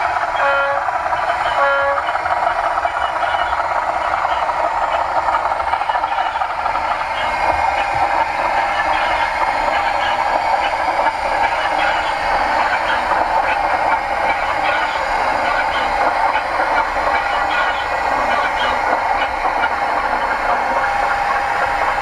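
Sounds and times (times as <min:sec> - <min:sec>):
model train running: 0:00.0 - 0:22.0
wheels clicking on rails: 0:00.0 - 0:22.0.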